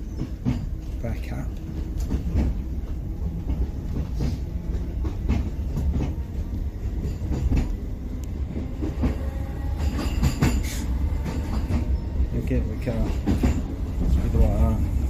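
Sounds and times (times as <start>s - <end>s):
train carriage low rumble: 0.0s - 15.0s
wheels clicking on track: 0.0s - 15.0s.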